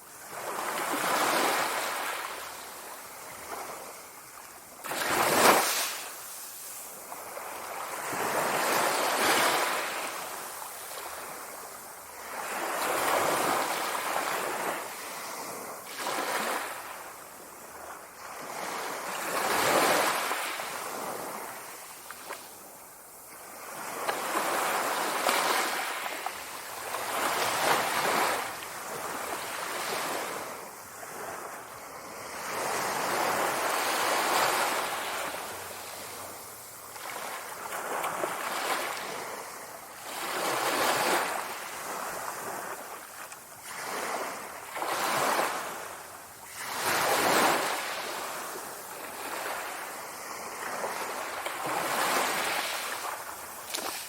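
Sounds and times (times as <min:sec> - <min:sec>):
sea waves breaking ashore: 0:00.2 - 0:54.0.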